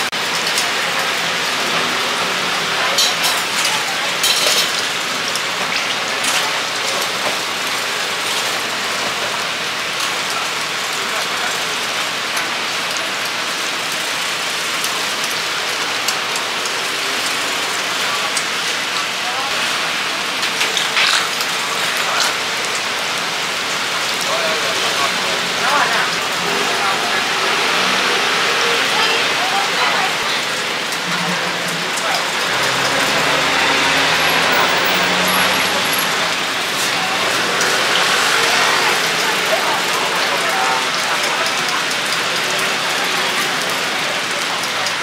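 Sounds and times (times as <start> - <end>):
food sizzling in oil: 0.2 - 10.8, 11.8 - 45.0.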